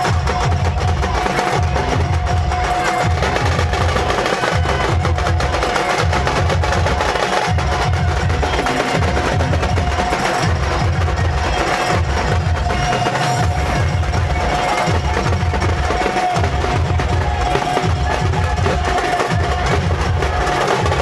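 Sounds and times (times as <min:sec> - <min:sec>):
drums beating: 0:00.0 - 0:21.0.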